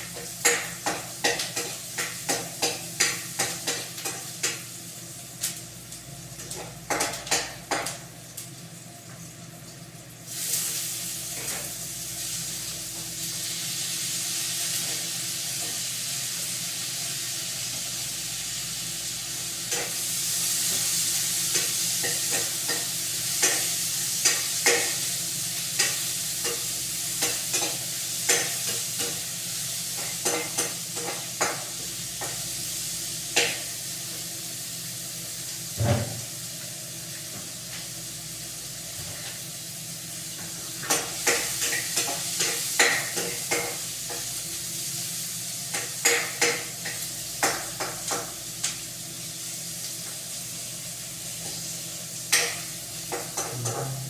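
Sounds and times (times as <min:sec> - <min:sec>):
food frying in a pan: 0:00.0 - 0:54.0
loud sizzle: 0:00.0 - 0:54.0.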